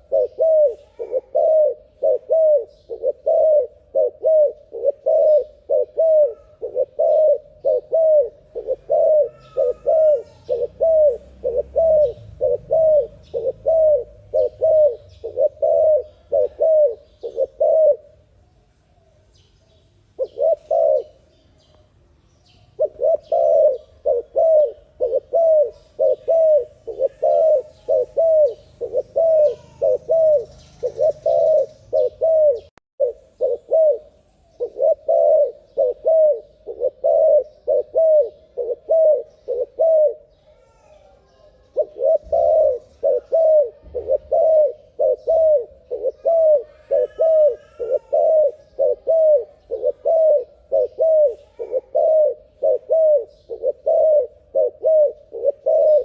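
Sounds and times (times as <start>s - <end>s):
dove cooing: 0.0s - 18.2s, 20.2s - 21.3s, 22.7s - 56.0s.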